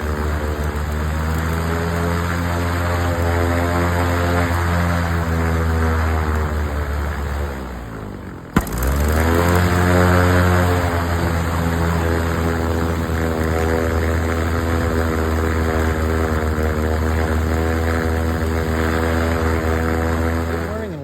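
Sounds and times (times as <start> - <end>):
aircraft engine and propeller: 0.0 - 21.0.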